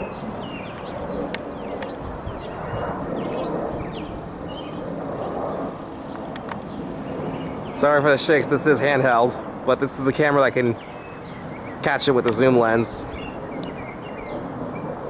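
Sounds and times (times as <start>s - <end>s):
jet airliner passing overhead: 0.0s - 15.0s
small birds chirping: 0.0s - 15.0s.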